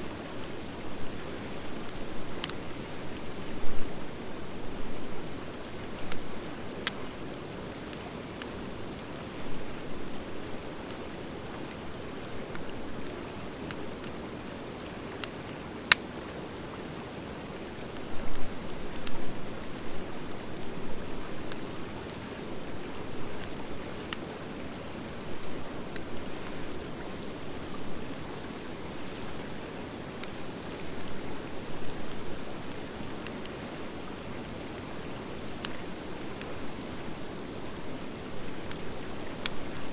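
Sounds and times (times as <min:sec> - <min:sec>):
fire crackling and popping: 0:00.1 - 0:16.2, 0:17.2 - 0:39.9.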